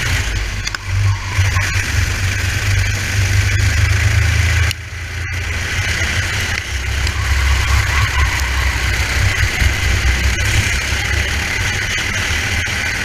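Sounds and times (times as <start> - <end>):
kart engine: 0.0 - 13.0.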